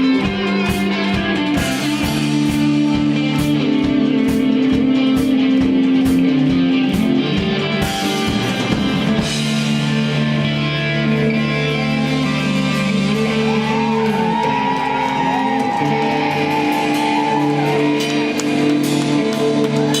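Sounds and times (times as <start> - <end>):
bass guitar: 0.0 - 20.0
bending guitar notes: 0.0 - 20.0
electric guitar chords: 0.0 - 20.0.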